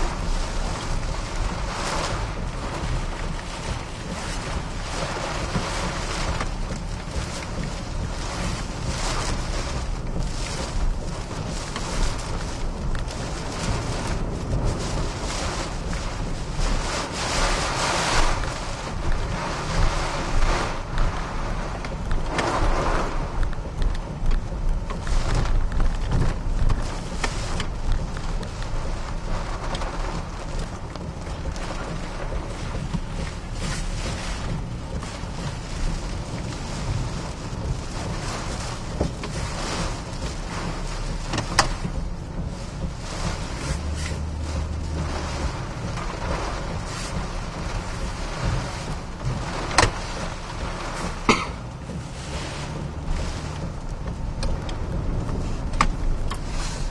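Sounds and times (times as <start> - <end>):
wind and rain lashing truck: 0.0 - 56.9.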